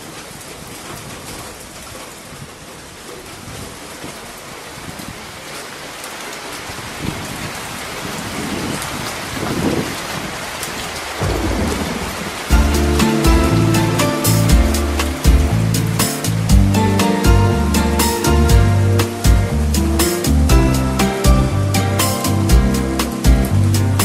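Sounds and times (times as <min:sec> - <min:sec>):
rain on pavement: 0:00.0 - 0:24.0.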